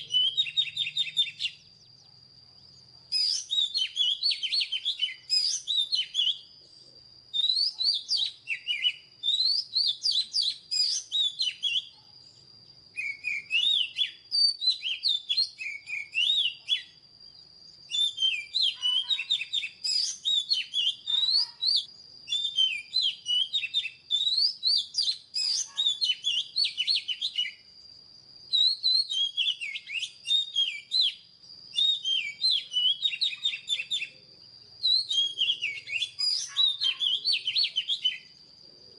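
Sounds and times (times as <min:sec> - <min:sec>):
bird singing whistled notes: 0:00.0 - 0:38.7.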